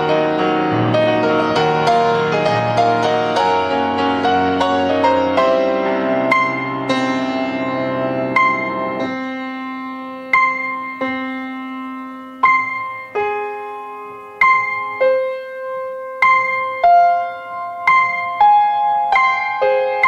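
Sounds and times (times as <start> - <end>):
solo piano melody: 0.0 - 20.0.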